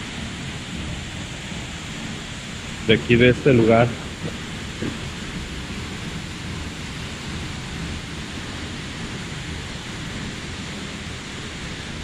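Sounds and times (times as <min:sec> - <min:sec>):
waterfall and running water: 0:00.0 - 0:12.0.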